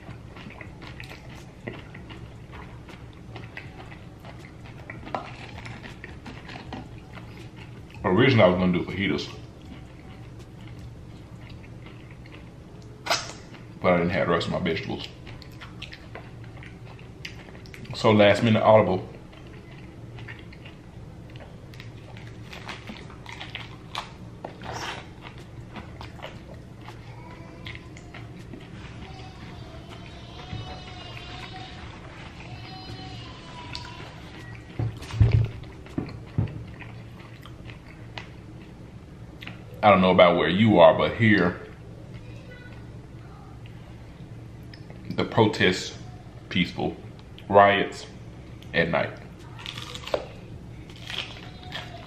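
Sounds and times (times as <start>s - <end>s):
crunchy food chewing: 0.0s - 39.8s, 48.6s - 52.0s.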